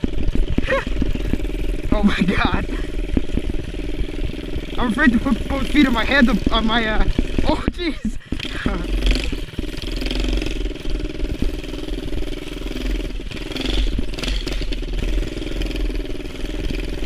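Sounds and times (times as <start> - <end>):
mini bike engine running: 0.0 - 17.0.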